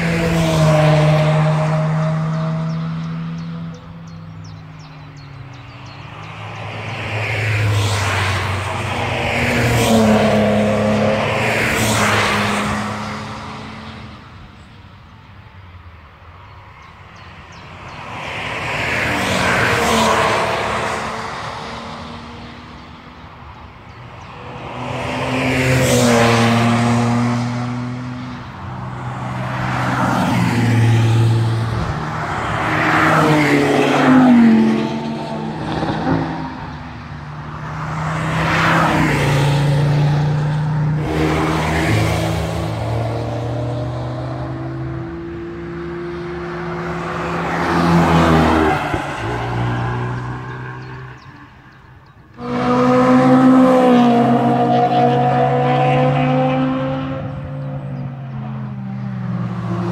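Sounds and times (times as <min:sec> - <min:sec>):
race cars passing at speed: 0:00.0 - 0:59.9.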